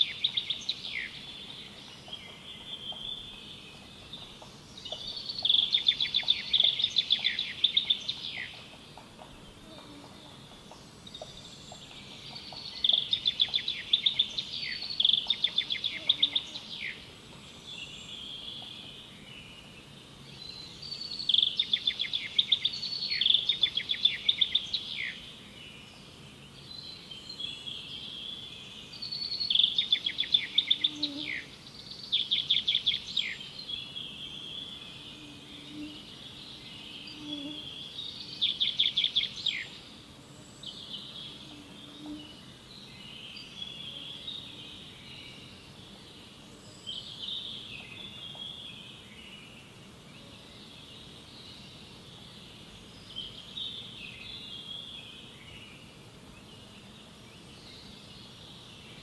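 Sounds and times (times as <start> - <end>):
birds singing and calling: 0.0 - 59.0.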